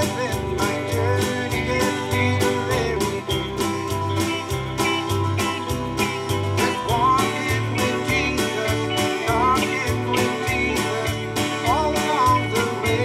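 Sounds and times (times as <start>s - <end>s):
acoustic guitar: 0.0s - 13.0s
country gospel band playing: 0.0s - 13.0s
sliding lead melody: 0.0s - 13.0s.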